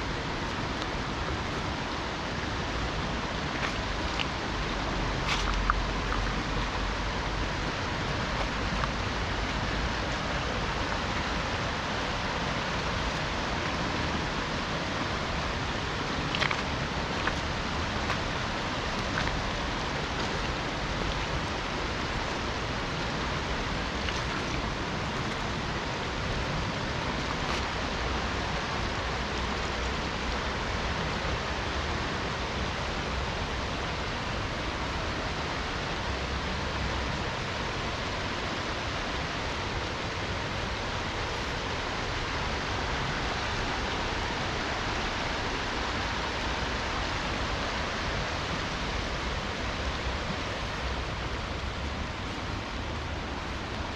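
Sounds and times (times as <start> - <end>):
falling rain: 0.0 - 53.9
river rushing: 0.0 - 53.9.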